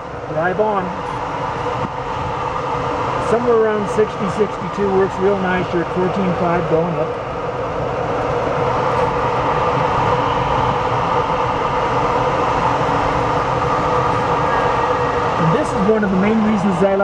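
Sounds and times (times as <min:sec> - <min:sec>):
rushing airflow in cockpit: 0:00.0 - 0:17.0.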